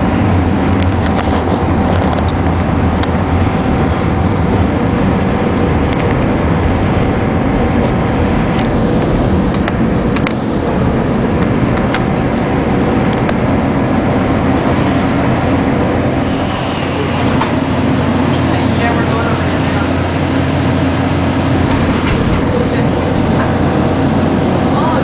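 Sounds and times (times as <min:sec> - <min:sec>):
faint whine: 0:00.0 - 0:25.0
train rumbling: 0:00.0 - 0:25.0.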